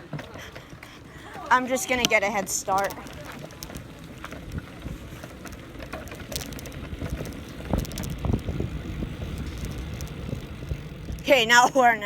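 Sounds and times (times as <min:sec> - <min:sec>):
bicycle tyres rumbling: 0:00.0 - 0:12.0
bike rattling and knocking: 0:00.0 - 0:12.0
wind buffeting microphone: 0:00.0 - 0:12.0.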